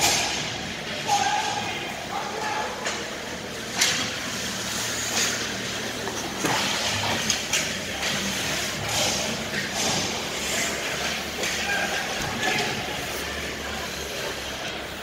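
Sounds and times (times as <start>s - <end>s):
steady rink hum: 0.0s - 15.0s
skate blades scraping ice: 2.4s - 15.0s.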